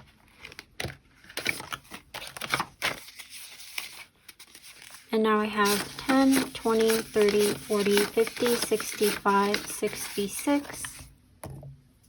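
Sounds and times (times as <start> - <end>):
paper bills crinkling and rustling: 0.0 - 11.1.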